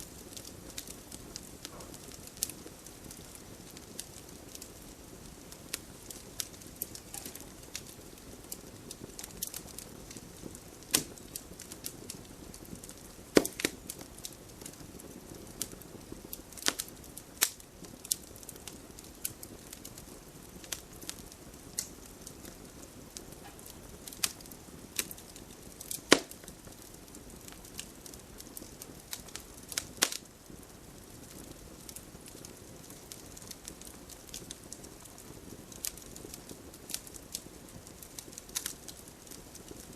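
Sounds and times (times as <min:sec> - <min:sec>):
campfire crackling and popping: 0:00.0 - 0:39.9
soft steady hiss: 0:00.0 - 0:39.9.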